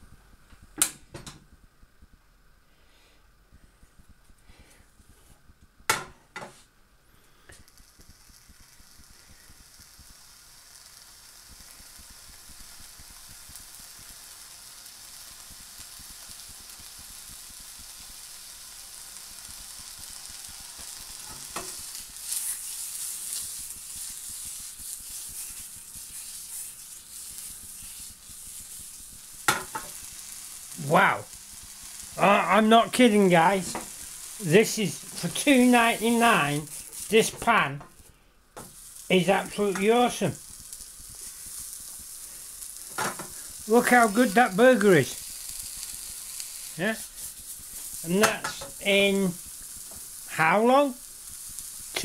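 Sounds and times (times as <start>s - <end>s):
burger patty sizzling in a pan: 4.5s - 52.0s.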